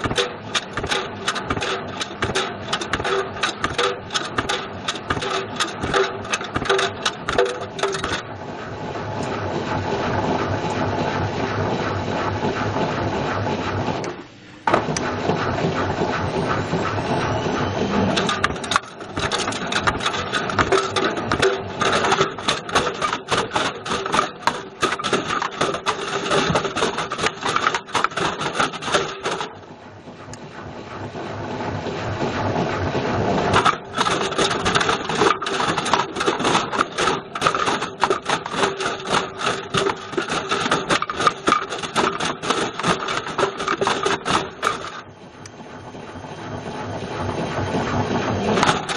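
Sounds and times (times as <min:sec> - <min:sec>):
object clattering in washing machine: 0:00.0 - 0:08.3, 0:09.2 - 0:29.6, 0:32.6 - 0:45.1, 0:47.9 - 0:48.9.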